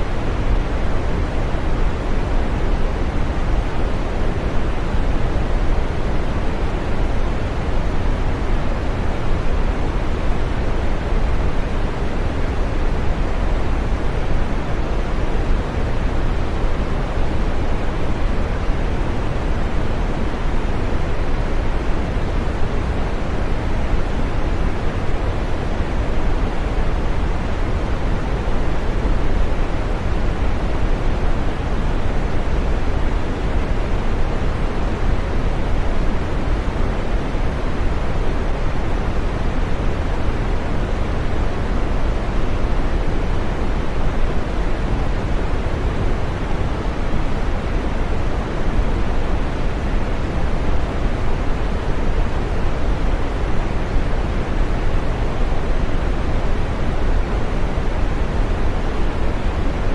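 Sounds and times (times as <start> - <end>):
steady green noise: 0.0 - 59.9.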